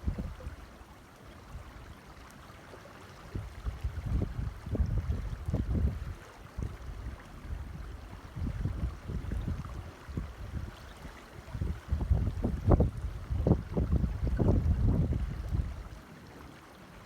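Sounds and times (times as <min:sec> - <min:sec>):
creek water rushing and gurgling: 0:00.0 - 0:17.0.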